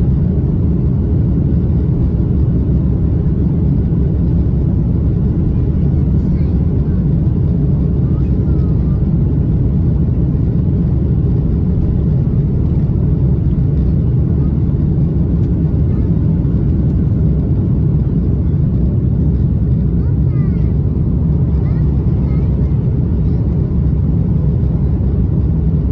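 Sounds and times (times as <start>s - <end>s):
aircraft cabin engine drone: 0.0s - 25.9s.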